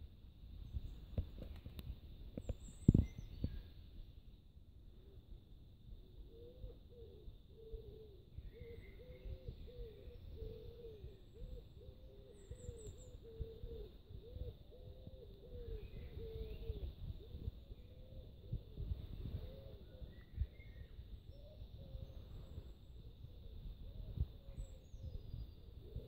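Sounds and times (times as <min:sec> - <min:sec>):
small birds chirping: 0:00.6 - 0:04.4, 0:06.2 - 0:26.0.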